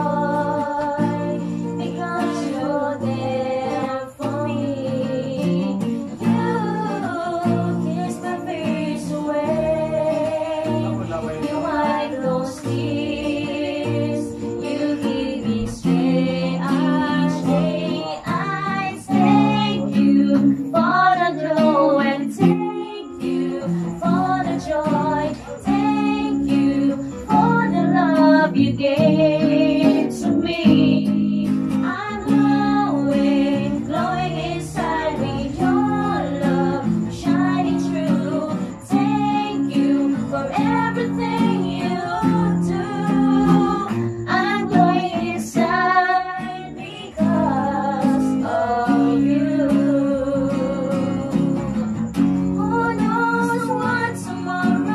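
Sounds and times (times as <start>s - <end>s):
acoustic guitars strumming: 0.0s - 54.9s
people singing along: 0.0s - 54.9s
woman singing: 0.0s - 54.9s.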